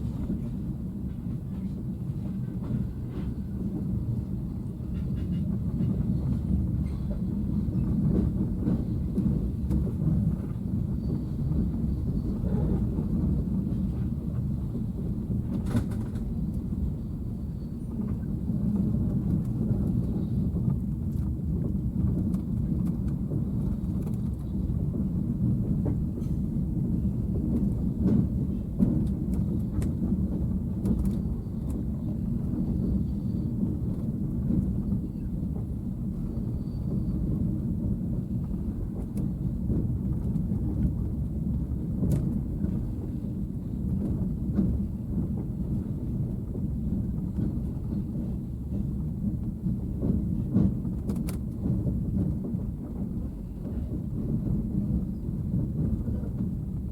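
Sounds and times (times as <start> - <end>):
train carriage rumbling on rails: 0.0 - 56.9.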